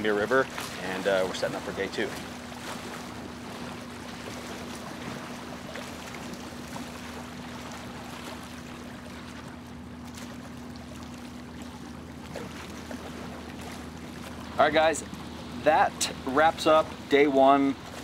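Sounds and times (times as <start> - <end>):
constant low hum: 0.0 - 18.0.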